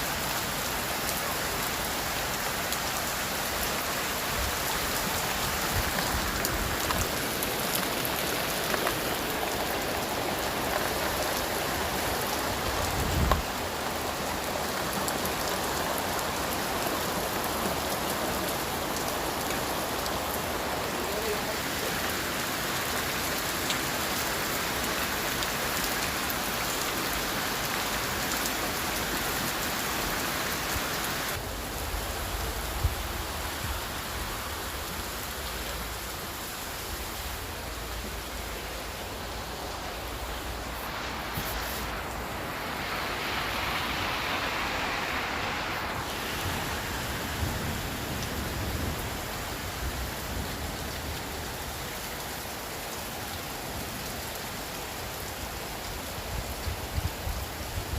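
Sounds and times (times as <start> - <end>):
rain on hard surfaces: 0.0 - 57.9.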